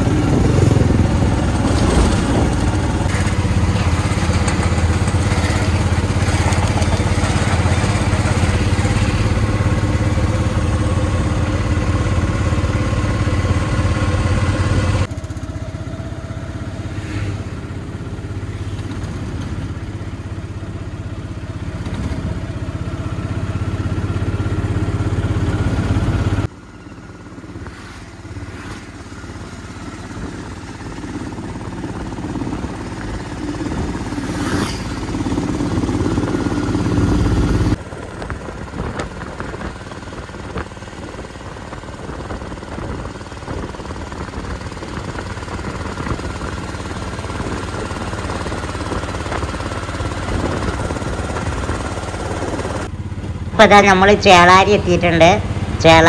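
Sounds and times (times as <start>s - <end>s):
auto-rickshaw engine humming: 0.0s - 56.0s
road noise: 0.0s - 56.0s.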